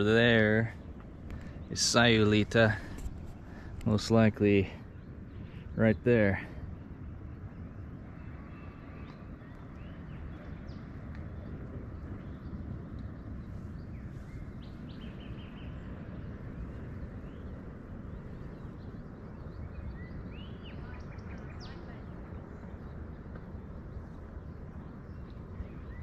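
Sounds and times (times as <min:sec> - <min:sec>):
steady low rumbling: 0:00.0 - 0:26.0.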